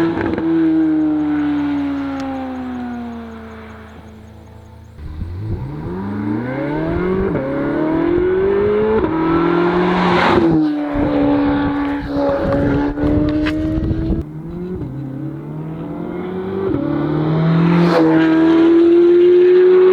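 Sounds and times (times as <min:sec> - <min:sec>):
car engine accelerating hard: 0:00.0 - 0:19.9.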